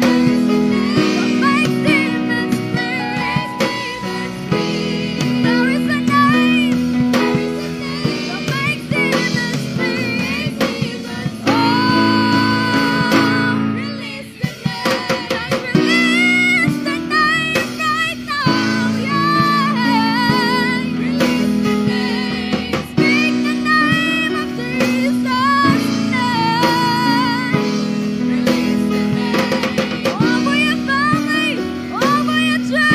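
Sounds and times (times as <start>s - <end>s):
drums: 0.0s - 32.9s
group singing worship song: 0.0s - 32.9s
guitar: 0.0s - 32.9s.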